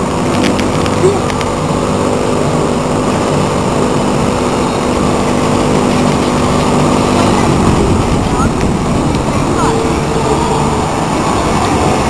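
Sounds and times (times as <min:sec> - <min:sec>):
fairground ride rumbling: 0:00.0 - 0:12.0.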